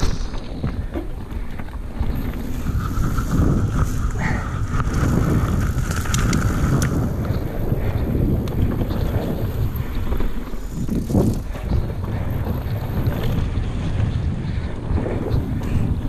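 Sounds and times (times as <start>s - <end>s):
bike rattles and clicks: 0.0s - 16.0s
tyres rumbling over dirt trail: 0.0s - 16.0s
wind buffeting microphone: 0.0s - 16.0s.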